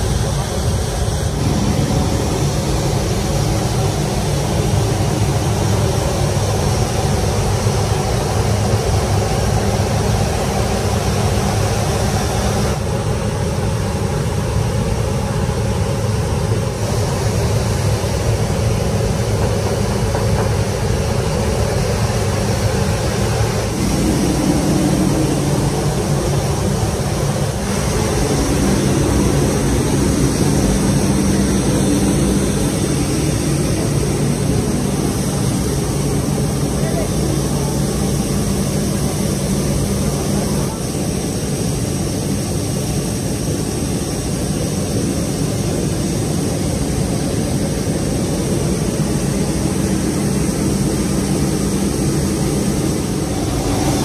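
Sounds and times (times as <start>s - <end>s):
loud outdoor rumbling: 0.0s - 54.0s.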